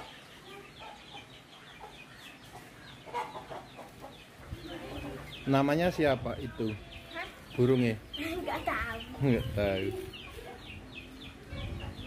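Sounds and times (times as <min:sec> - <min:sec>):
birds chirping and clucking: 0:00.0 - 0:12.0.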